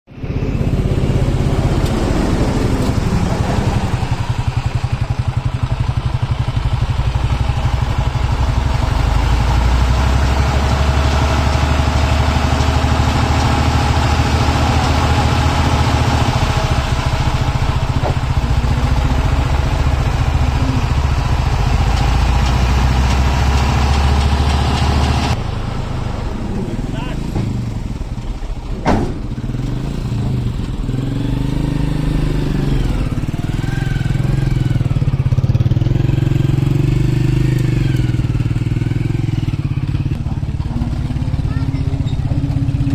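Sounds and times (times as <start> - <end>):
excavator diesel engine running: 0.1 - 42.9.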